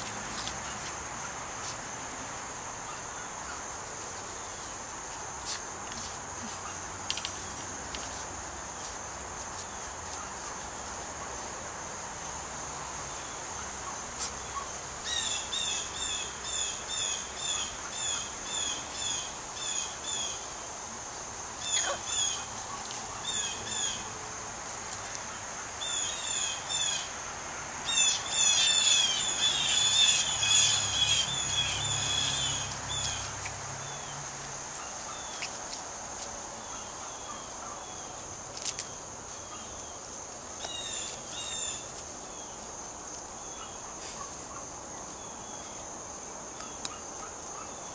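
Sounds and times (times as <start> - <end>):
high insect buzz: 0.0 - 47.9.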